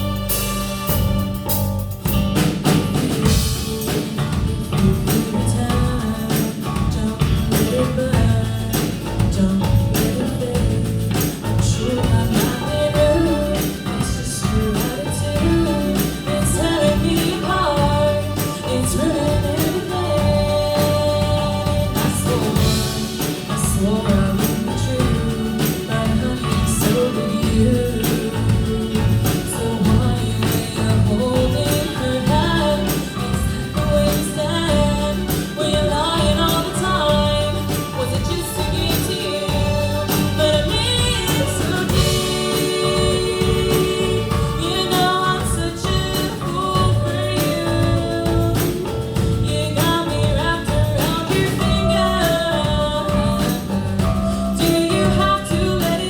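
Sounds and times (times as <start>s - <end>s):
instrumental accompaniment: 0.0s - 56.0s
person singing: 2.6s - 56.0s.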